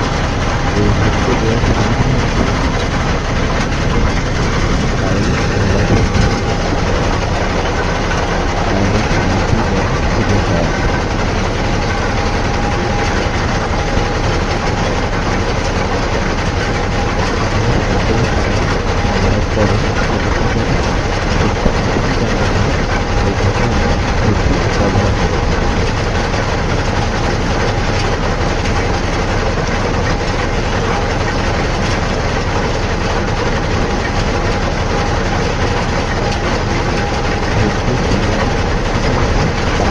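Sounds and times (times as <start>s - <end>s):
faint steady whine: 0.0s - 29.7s, 34.6s - 39.9s
heavy machinery engine running: 0.0s - 39.9s.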